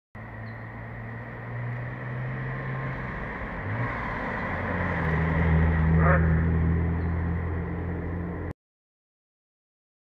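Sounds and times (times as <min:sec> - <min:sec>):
car engine at low revs: 0:00.2 - 0:08.5.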